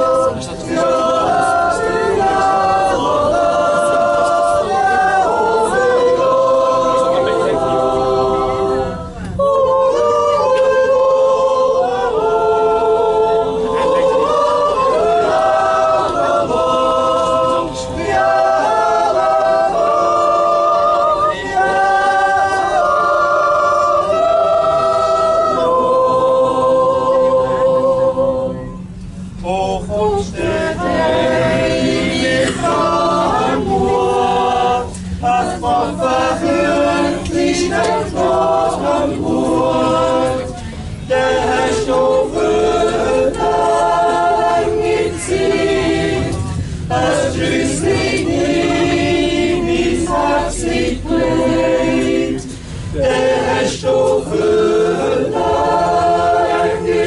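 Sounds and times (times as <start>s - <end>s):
low rumble: 0.0s - 56.9s
group singing in harmony: 0.0s - 57.0s.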